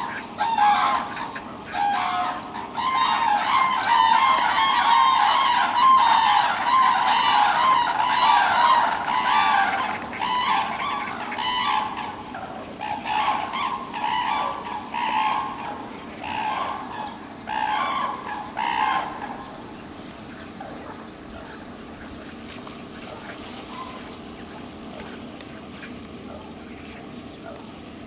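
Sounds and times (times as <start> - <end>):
cranes calling: 0.0 - 28.0.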